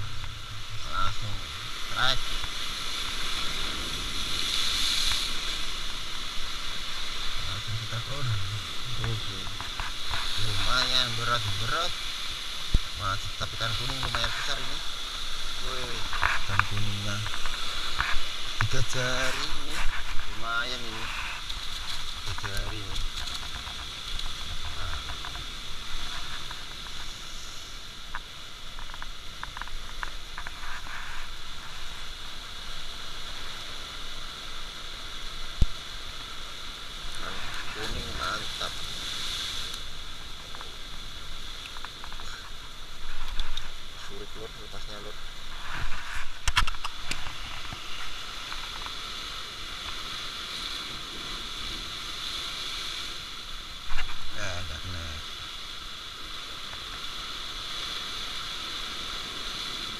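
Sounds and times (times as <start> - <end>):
outdoor hiss: 0.0 - 59.9
surf washing against rocks: 0.0 - 59.9.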